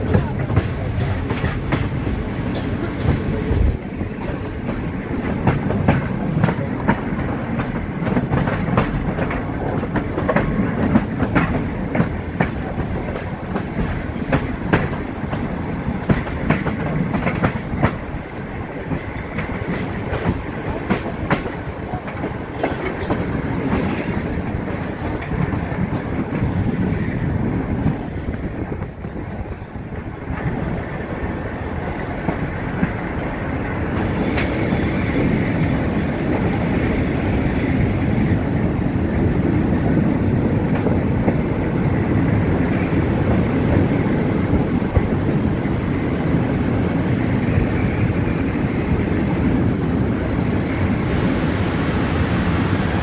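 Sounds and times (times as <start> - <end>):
train wheels clattering over joints: 0.0 - 49.0
train running rumble: 0.0 - 53.0.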